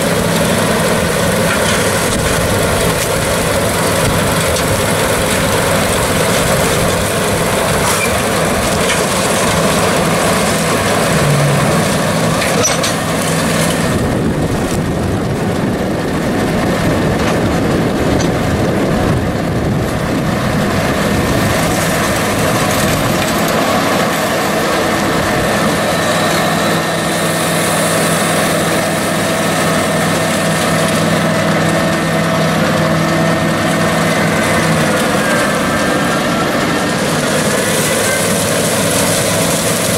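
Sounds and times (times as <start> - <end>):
round baler baling: 0.0 - 39.9
tractor diesel engine running: 0.0 - 39.9.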